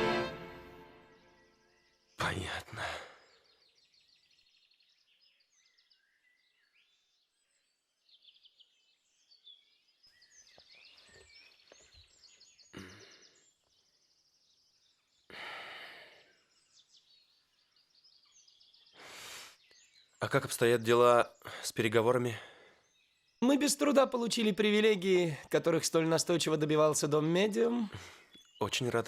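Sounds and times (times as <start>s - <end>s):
small birds chirping: 0.8s - 29.0s.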